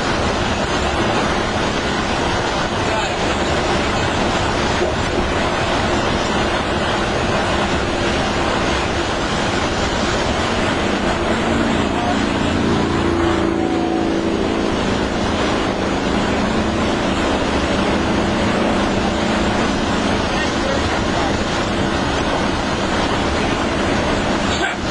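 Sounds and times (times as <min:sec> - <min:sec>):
low engine hum: 0:00.0 - 0:24.9
road and wind noise: 0:00.0 - 0:24.9.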